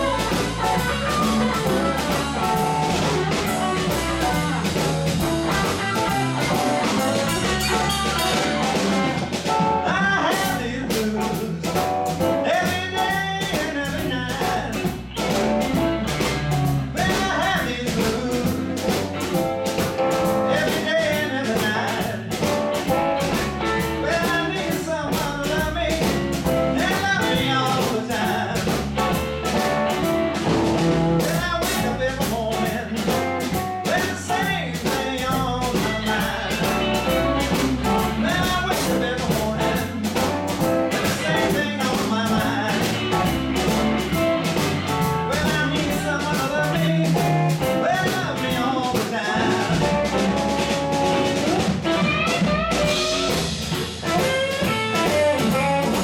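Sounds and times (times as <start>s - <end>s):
bent electric guitar notes: 0.0s - 10.8s, 11.4s - 33.9s, 34.6s - 56.0s
blues band playing: 0.0s - 56.0s
steady drum beat: 0.0s - 56.0s.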